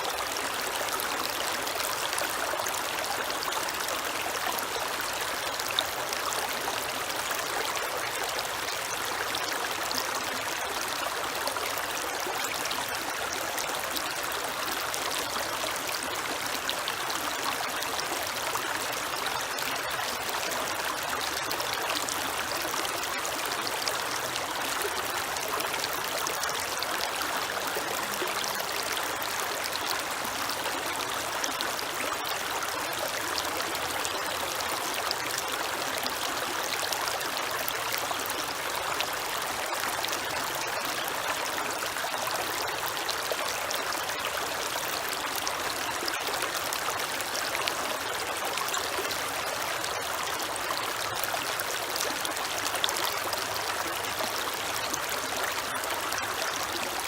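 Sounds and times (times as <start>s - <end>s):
creek flowing over rocks: 0.0s - 57.0s
water splashes and trickles: 0.0s - 57.0s.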